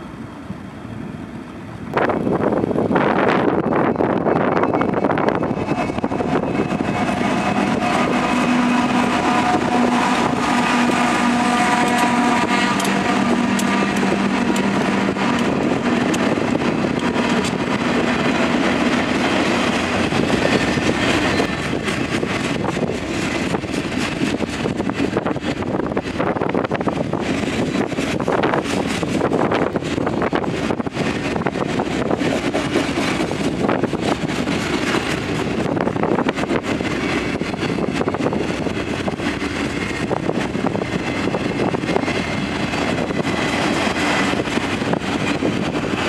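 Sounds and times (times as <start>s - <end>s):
diesel locomotives droning: 0.0s - 46.0s
rail cars rolling past: 0.0s - 46.0s.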